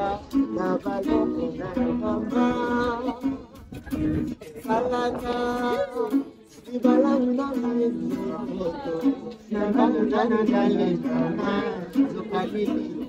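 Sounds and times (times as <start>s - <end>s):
acoustic guitar strummed and picked: 0.0s - 13.0s
person singing: 0.0s - 13.0s.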